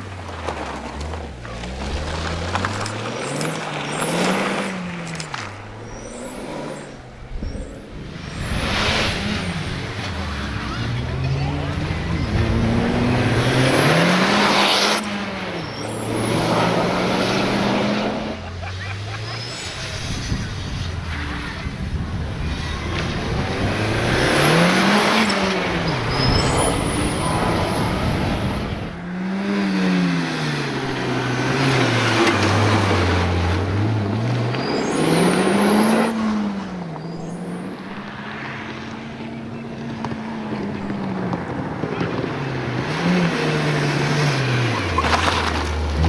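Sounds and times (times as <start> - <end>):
rally car engine revving: 0.0 - 46.0.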